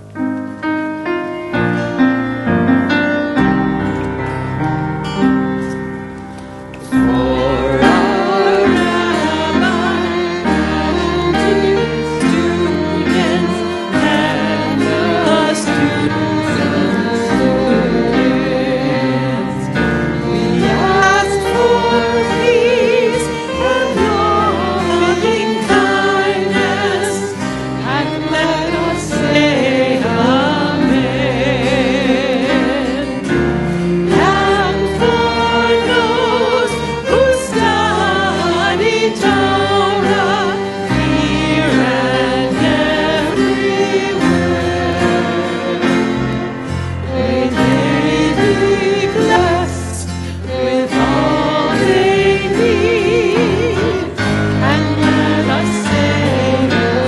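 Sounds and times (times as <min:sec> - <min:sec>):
choir singing: 0:06.8 - 0:57.0.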